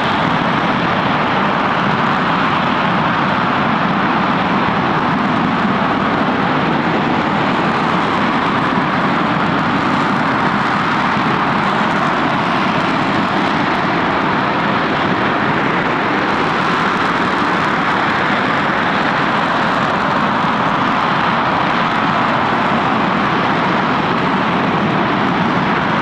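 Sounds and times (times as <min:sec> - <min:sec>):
rocket engine roaring: 0:00.0 - 0:26.0.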